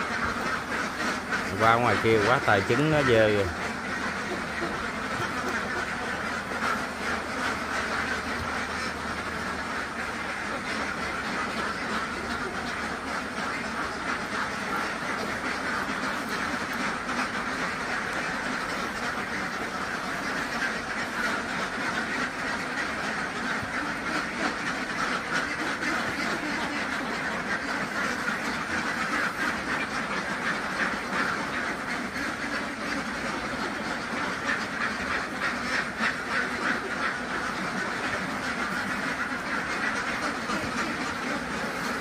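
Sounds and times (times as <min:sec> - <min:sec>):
ducks quacking: 0:00.0 - 0:42.0.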